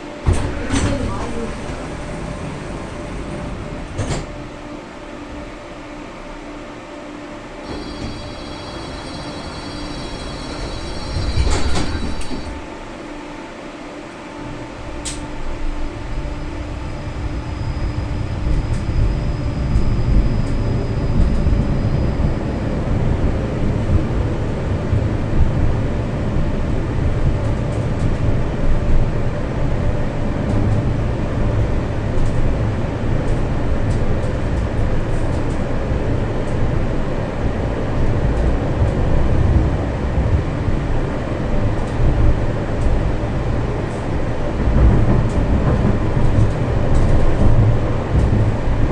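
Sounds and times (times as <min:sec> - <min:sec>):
tram wheels and motor rumbling: 0:00.0 - 0:48.9.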